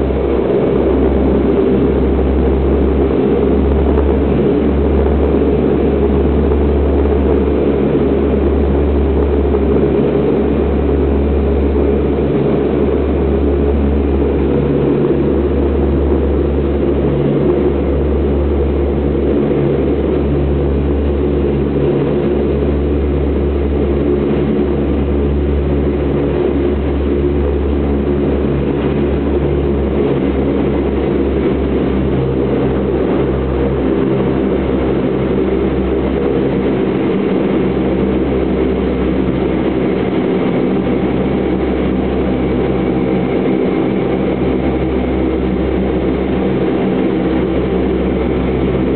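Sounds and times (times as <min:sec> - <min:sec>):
turboprop engines droning: 0:00.0 - 0:48.9.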